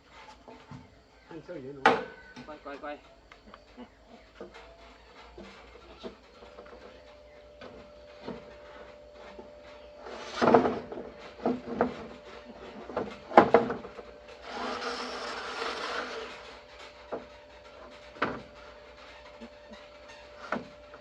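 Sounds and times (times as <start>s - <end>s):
rubbing scrape: 4.0s - 21.0s.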